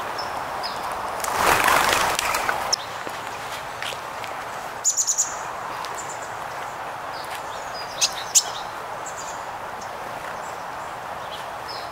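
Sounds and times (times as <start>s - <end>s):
songbirds chirping: 0.0s - 11.9s.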